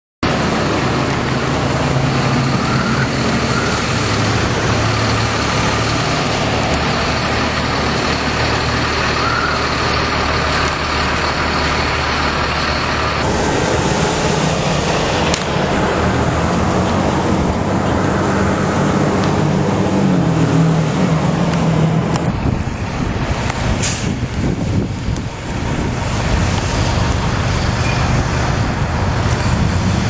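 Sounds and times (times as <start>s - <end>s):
blizzard wind: 0.2s - 30.0s
low hum of vehicle engine: 0.2s - 30.0s.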